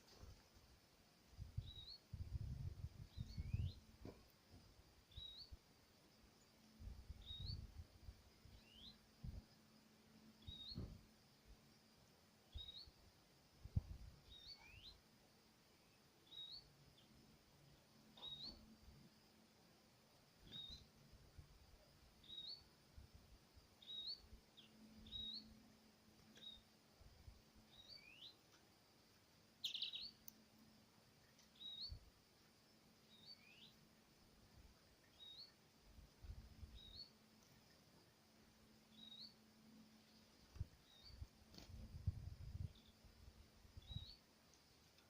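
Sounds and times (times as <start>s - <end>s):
songbird chirping: 0.0s - 45.0s.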